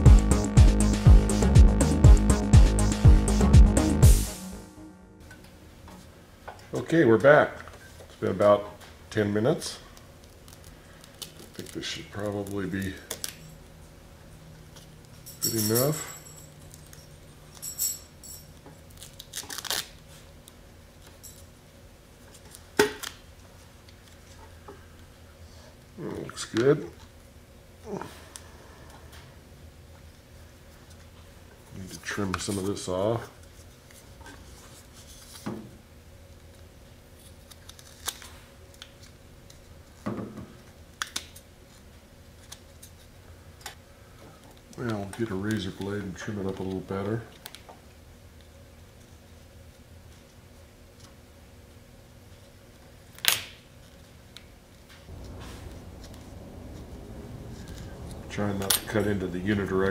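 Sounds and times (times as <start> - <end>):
faint steady hum: 4.2 - 59.9.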